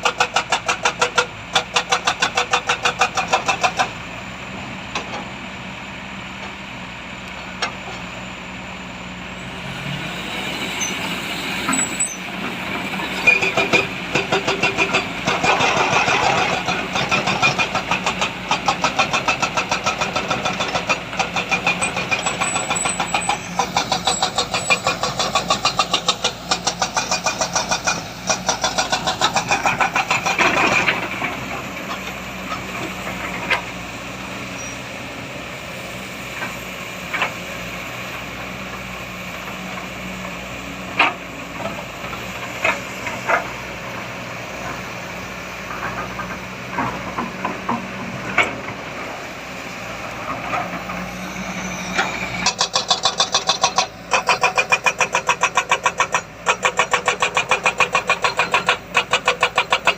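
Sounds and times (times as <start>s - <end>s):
heavy diesel engine labouring: 0.0s - 59.9s.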